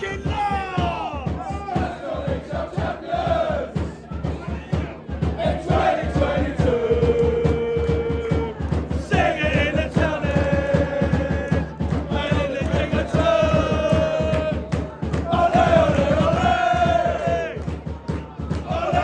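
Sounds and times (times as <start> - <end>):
fast steady drumbeat: 0.0 - 19.0.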